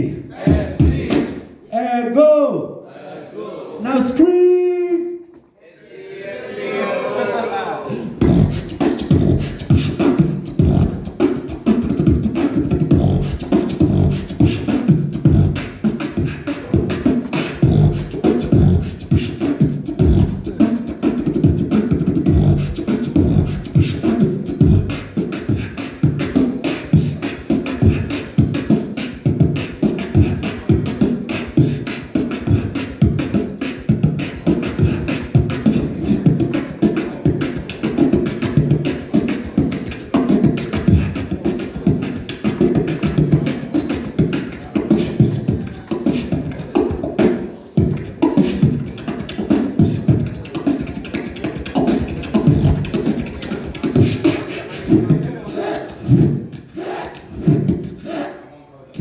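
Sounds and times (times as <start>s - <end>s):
beatboxing into a microphone: 0.0s - 1.6s, 7.9s - 59.0s.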